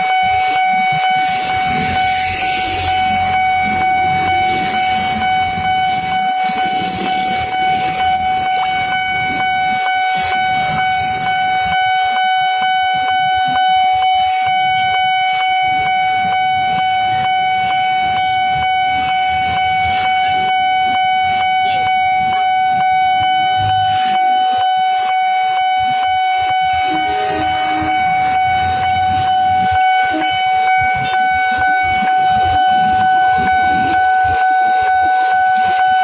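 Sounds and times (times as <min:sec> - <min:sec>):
electric train passing: 0:00.0 - 0:36.0
level crossing warning alarm: 0:00.0 - 0:36.0.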